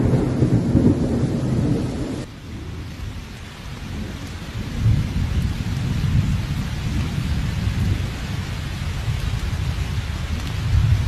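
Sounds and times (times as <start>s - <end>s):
heavy rain rushing: 0.0s - 11.0s.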